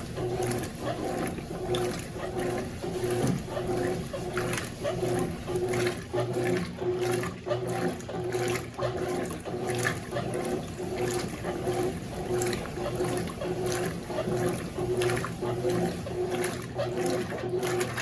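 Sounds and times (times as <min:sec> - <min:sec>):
washing machine motor humming: 0:00.0 - 0:18.0
water sloshing: 0:00.0 - 0:18.0.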